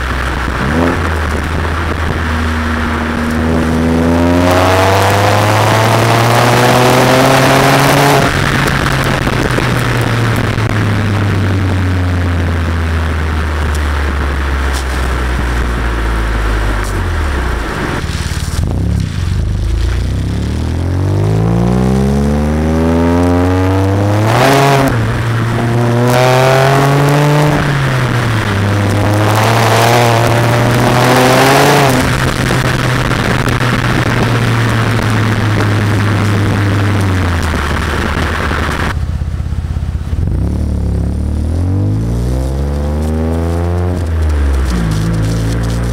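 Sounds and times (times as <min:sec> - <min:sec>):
car exhaust drone: 0:00.0 - 0:45.9.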